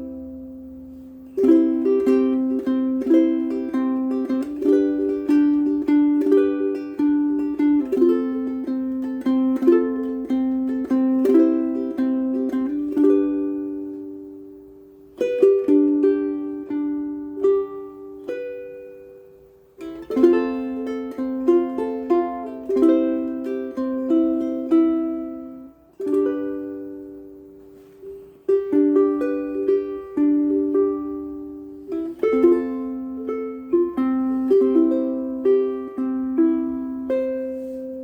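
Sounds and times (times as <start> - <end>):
ukulele plucked melody: 0.0 - 38.0.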